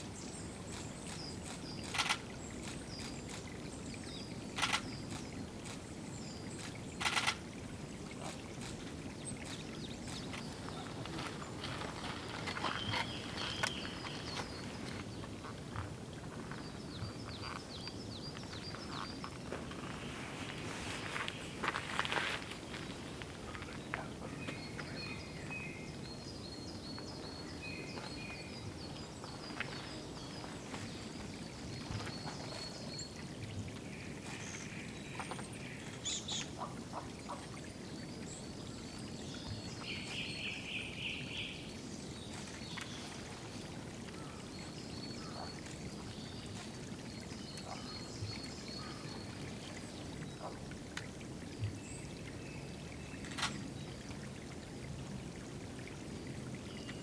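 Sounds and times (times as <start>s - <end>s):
water trickling and pouring: 0.0s - 57.0s.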